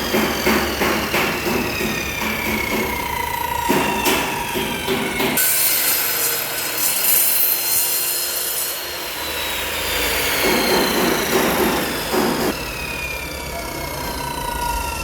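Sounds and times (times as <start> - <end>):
miter saw cutting wood: 0.0 - 15.0.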